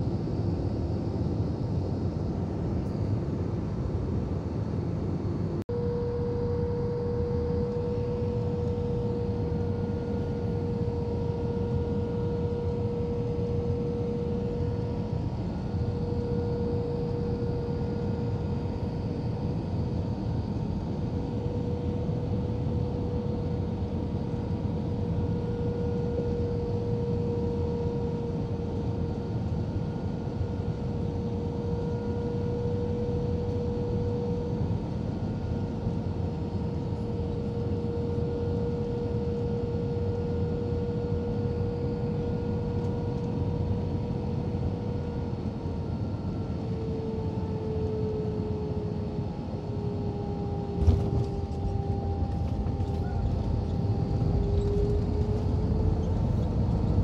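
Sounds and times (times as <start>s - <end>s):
jet engines and airflow rush: 0.0s - 57.0s.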